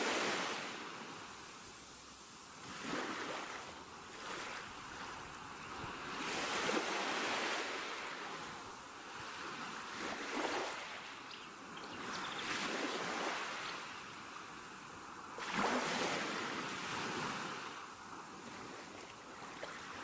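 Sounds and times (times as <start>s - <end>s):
rushing surf-like noise: 0.0s - 20.0s.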